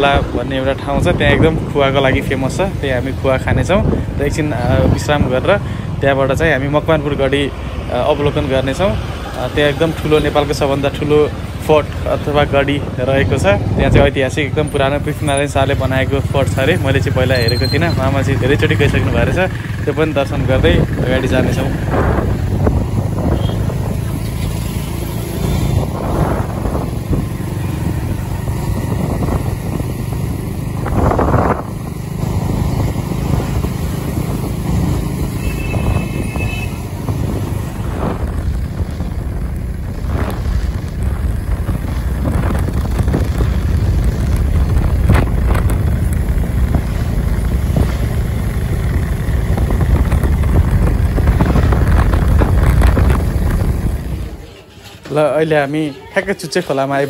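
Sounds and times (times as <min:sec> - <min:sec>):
motorcycle engine: 0:00.0 - 0:55.2
wind and road noise: 0:00.0 - 0:57.0.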